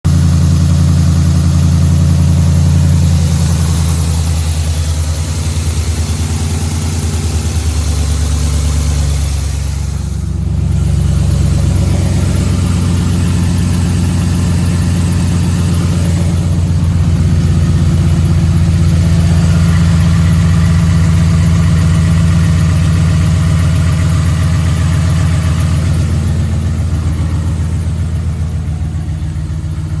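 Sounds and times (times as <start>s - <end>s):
engine running with rhythmic knock: 0.1s - 30.0s.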